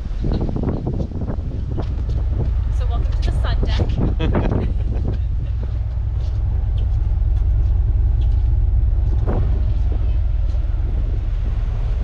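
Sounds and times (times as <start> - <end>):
ship engine drone: 0.0 - 12.0
wind buffeting microphone: 0.0 - 12.0.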